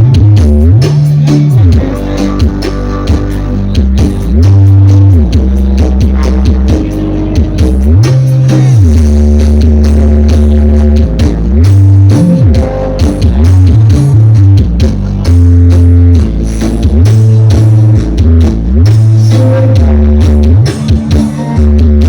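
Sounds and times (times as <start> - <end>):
heavy sliding bass notes: 0.0 - 22.0
loud electronic dance music: 0.0 - 22.0.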